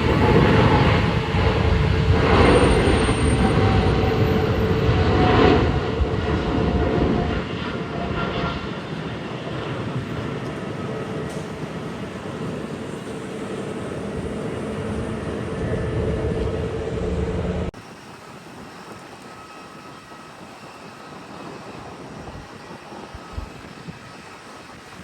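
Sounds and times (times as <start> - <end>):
airliner engines whining: 0.0 - 25.0
distant noise and wind: 0.0 - 25.0.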